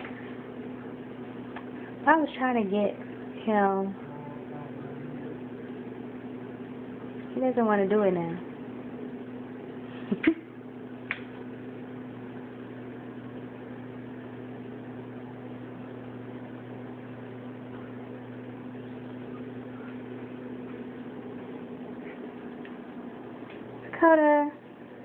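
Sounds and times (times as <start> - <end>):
appliance electrical hum: 0.0 - 25.0.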